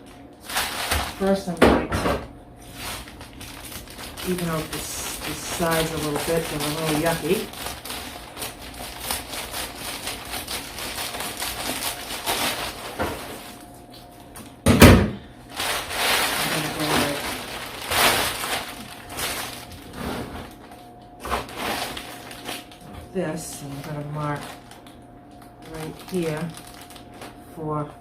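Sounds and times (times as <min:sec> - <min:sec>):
foil insulation crinkling: 0:00.0 - 0:01.6, 0:02.6 - 0:14.6, 0:15.4 - 0:27.5.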